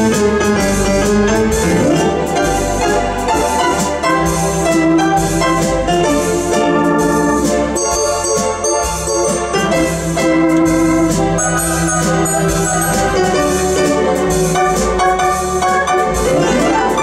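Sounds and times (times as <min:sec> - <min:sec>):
electronic organ foxtrot: 0:00.0 - 0:17.0
piano voice: 0:00.0 - 0:17.0
string background: 0:00.0 - 0:17.0
glockenspiel notes: 0:01.7 - 0:17.0.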